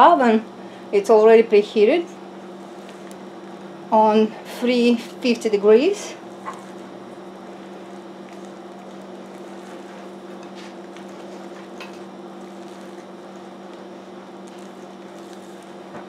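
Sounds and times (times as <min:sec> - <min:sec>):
kitchen appliance hum: 0:00.0 - 0:16.0.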